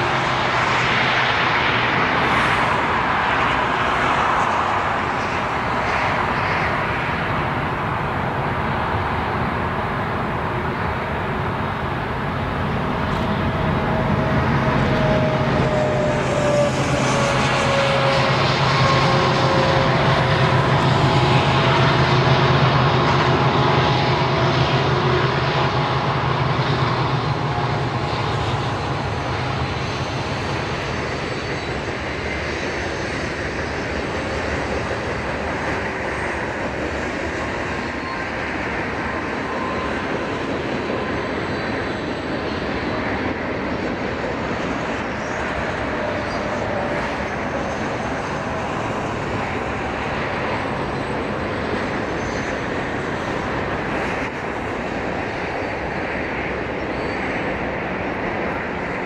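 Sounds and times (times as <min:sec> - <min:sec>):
diesel locomotive engine drone: 0:00.0 - 0:59.0
freight cars rumbling on rails: 0:00.0 - 0:59.0.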